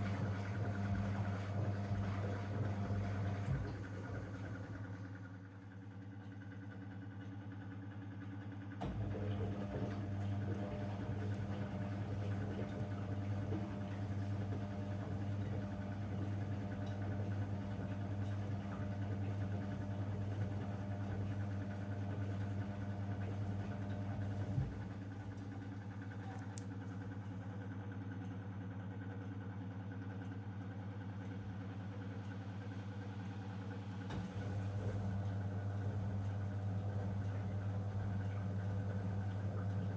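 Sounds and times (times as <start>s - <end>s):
washing machine humming: 0.0s - 6.5s, 8.8s - 27.6s, 29.8s - 39.9s.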